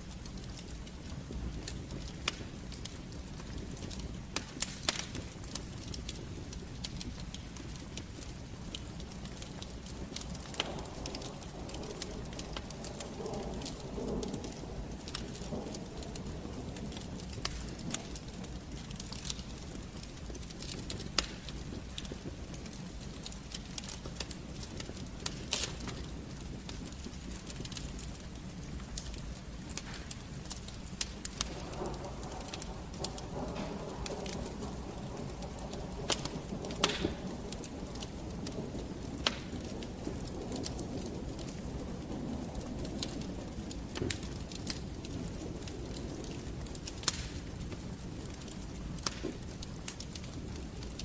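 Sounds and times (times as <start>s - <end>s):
low fire rumble: 0.0s - 51.0s
wood fire crackling and popping: 0.0s - 51.0s.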